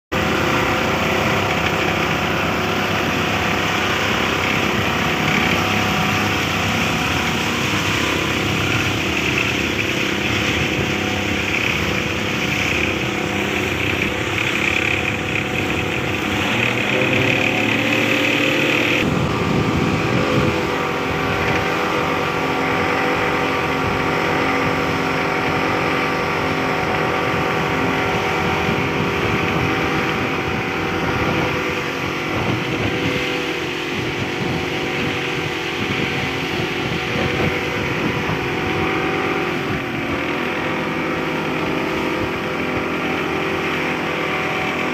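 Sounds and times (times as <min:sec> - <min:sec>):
outboard motor running: 0:00.1 - 0:44.9.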